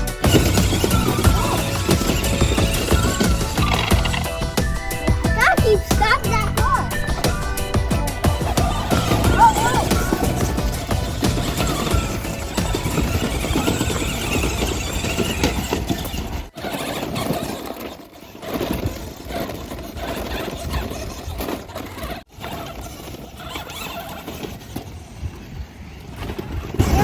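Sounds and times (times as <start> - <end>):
toy truck motor whirring: 0.0 - 27.0.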